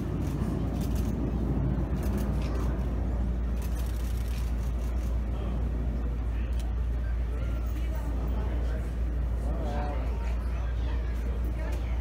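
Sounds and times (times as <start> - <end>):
distant jet aircraft rumble: 0.0 - 12.0.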